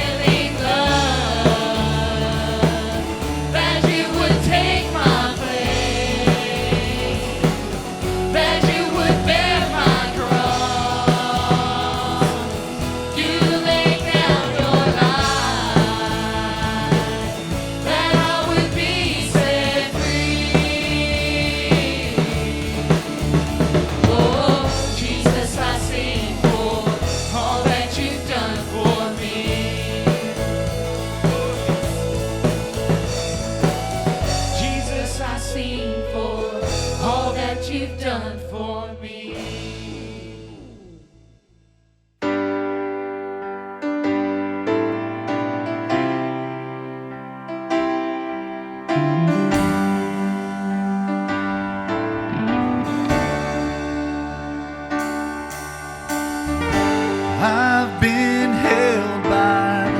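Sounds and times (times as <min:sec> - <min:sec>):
drum kit and bass: 0:00.0 - 0:38.4, 0:39.3 - 0:41.2, 0:49.0 - 0:59.9
people singing: 0:00.0 - 0:40.4, 0:49.5 - 0:59.9
worship song by band: 0:00.0 - 0:40.9, 0:48.9 - 0:59.9.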